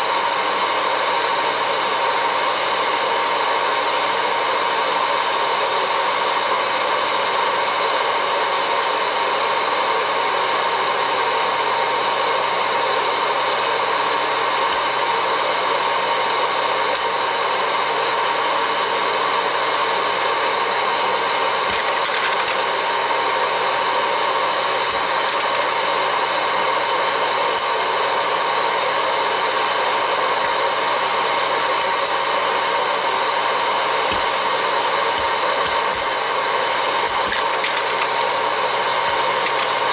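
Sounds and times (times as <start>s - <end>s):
hot air popcorn popper blowing: 0.0s - 39.9s.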